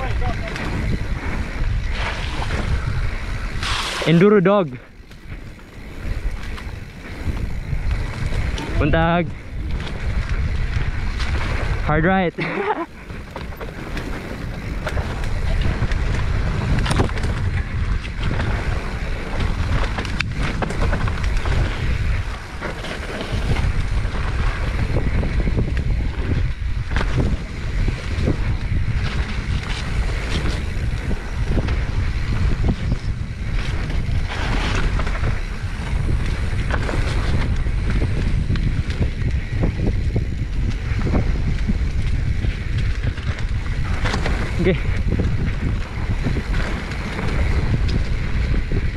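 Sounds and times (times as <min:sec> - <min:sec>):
bike knocking and rattling: 0:00.0 - 0:48.9
wind buffeting microphone: 0:00.0 - 0:48.9.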